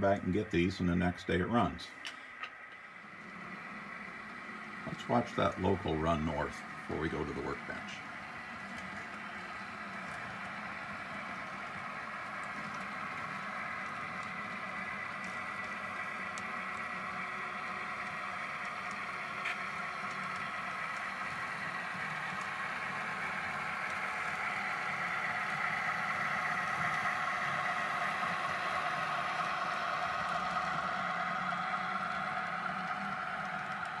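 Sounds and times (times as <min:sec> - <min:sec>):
model train motor whine: 0:00.0 - 0:34.0.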